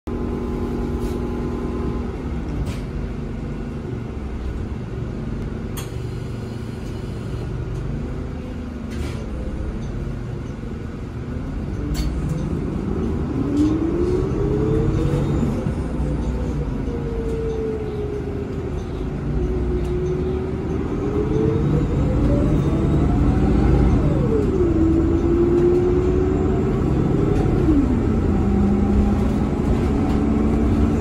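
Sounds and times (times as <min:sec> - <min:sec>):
bus engine and road rumble: 0:00.1 - 0:31.0.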